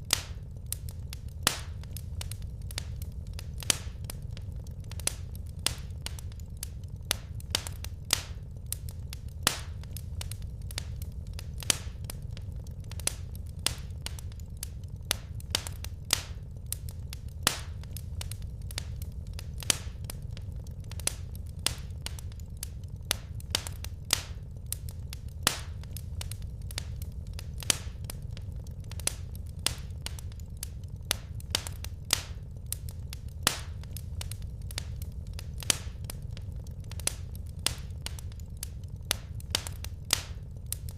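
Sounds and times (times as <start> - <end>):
low rumble of burning logs: 0.0 - 40.9
wood fire crackling: 0.0 - 40.9.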